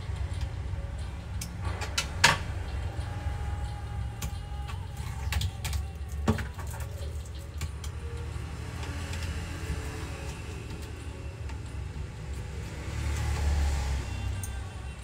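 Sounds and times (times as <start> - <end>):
metal tools clicking and tapping: 0.1 - 12.7, 14.2 - 15.0.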